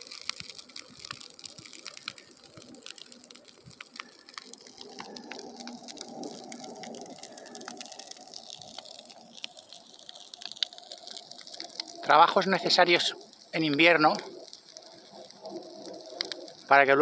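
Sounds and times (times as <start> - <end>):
burning brush crackling: 0.0 - 17.0.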